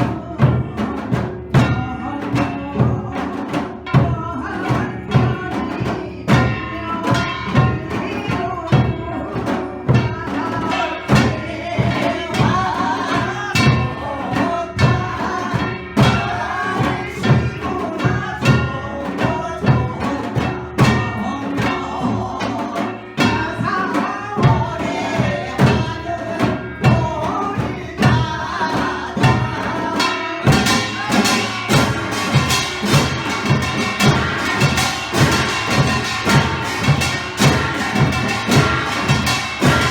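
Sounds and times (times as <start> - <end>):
drums and gongs playing: 0.0 - 39.9
person singing a melody: 0.0 - 39.9.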